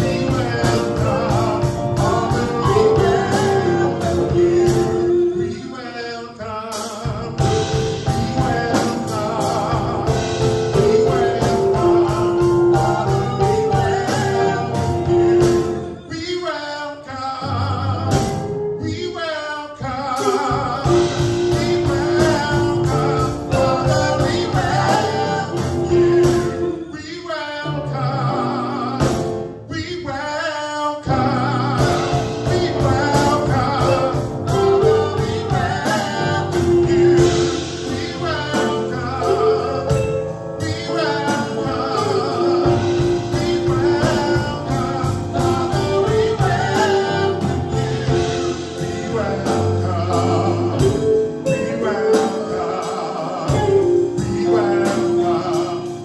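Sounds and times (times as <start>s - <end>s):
band playing worship music: 0.0s - 56.0s
people singing: 0.0s - 56.0s.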